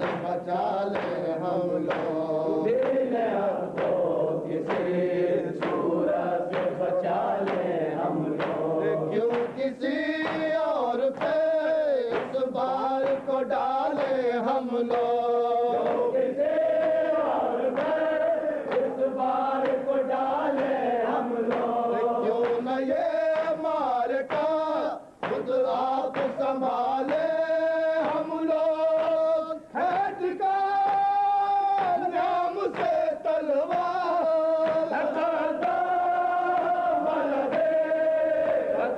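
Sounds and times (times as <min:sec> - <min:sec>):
men chanting a lament: 0:00.0 - 0:38.9.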